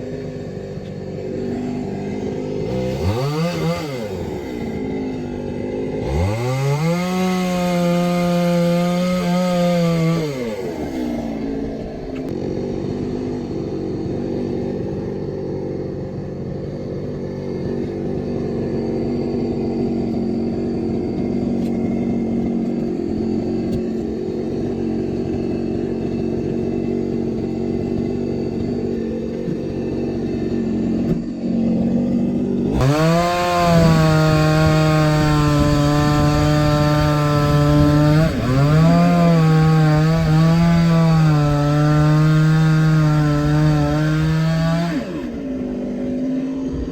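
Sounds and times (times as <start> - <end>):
chainsaw cutting log: 0.0 - 46.9.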